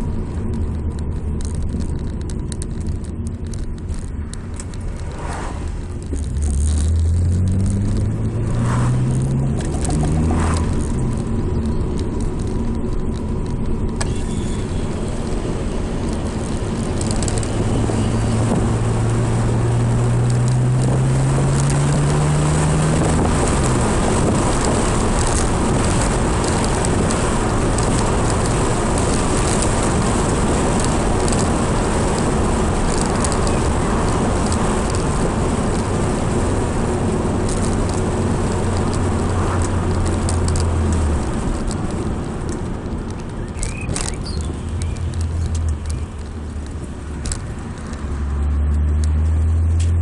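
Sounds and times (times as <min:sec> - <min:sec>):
car engine accelerating: 0:00.0 - 0:50.0
road and wind noise: 0:00.0 - 0:50.0.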